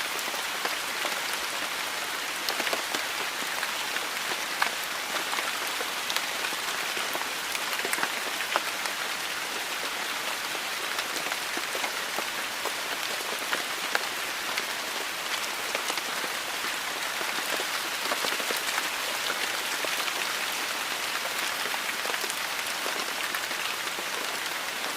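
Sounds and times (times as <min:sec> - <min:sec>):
rain pattering: 0:00.0 - 0:24.9.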